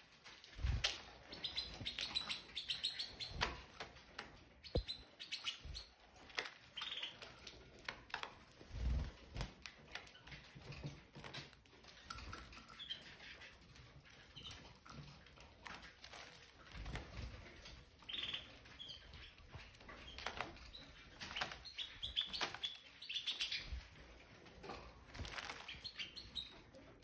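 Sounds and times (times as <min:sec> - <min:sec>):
canaries chirping: 0:00.0 - 0:27.0
birds pecking at seed clicks: 0:00.2 - 0:26.8.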